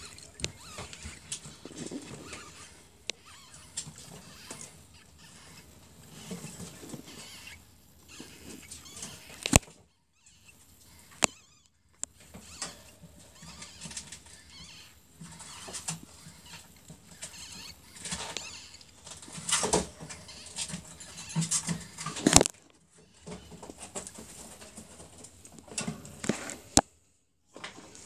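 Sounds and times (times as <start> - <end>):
ferret kits squeaking: 0.0 - 25.1.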